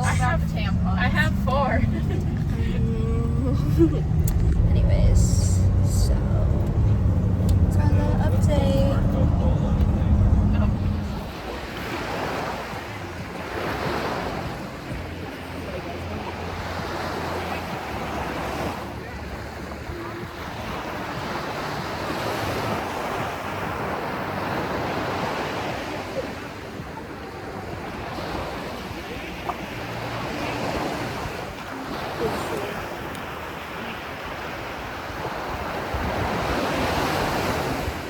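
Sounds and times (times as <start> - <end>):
ocean waves washing in: 0.0 - 38.0.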